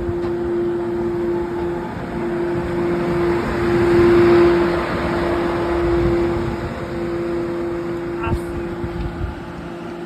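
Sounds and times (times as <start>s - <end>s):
electric train humming and rumbling: 0.0s - 10.0s.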